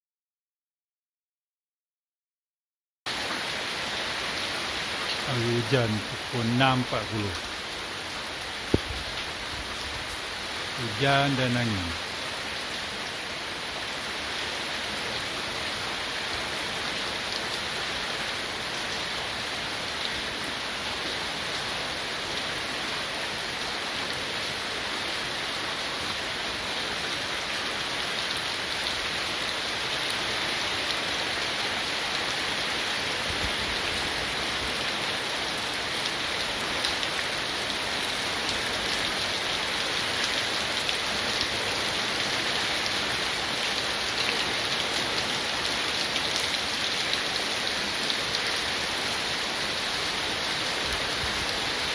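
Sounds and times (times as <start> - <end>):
heavy rain falling: 3.1 - 51.9.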